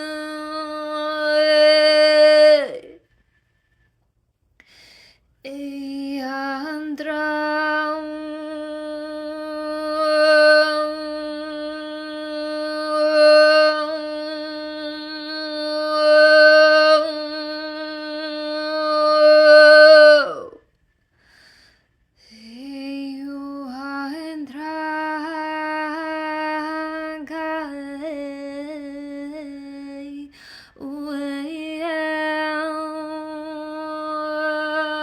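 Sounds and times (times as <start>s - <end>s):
woman singing long tone: 0.0s - 3.0s, 5.4s - 20.6s, 22.3s - 35.0s.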